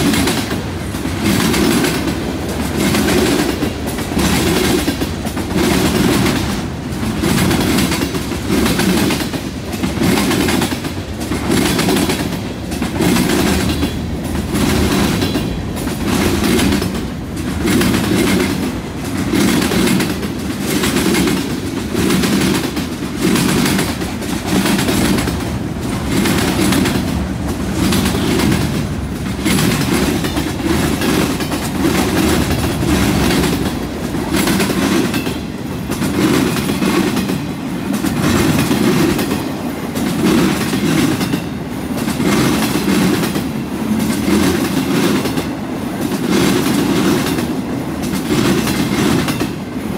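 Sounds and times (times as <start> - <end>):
train wheels clacking on rails: 0.0 - 49.9.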